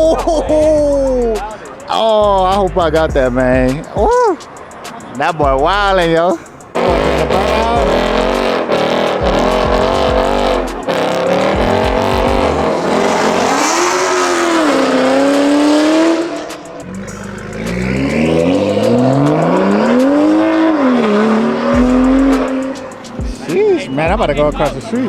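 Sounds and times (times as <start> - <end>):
car engine revving hard: 0.0 - 25.0
tyres screeching: 0.0 - 25.0.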